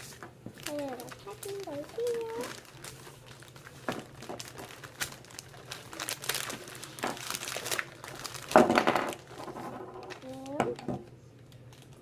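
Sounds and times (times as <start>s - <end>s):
plastic bag and paper crinkling: 0.0s - 12.0s.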